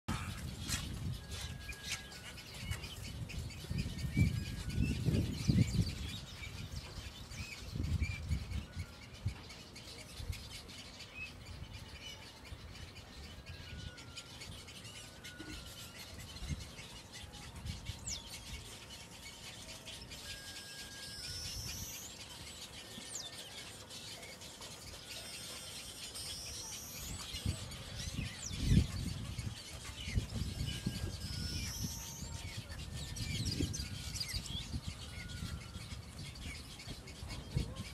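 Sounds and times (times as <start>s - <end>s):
weaver birds chirping and whistling: 0.1s - 37.9s.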